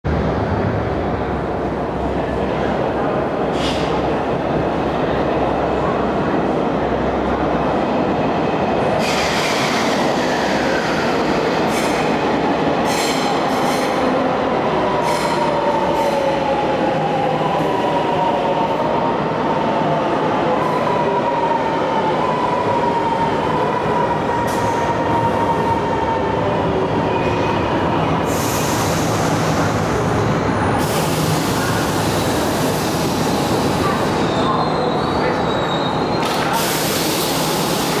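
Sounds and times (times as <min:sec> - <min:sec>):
train wheels rumbling on rail: 0:00.1 - 0:38.0.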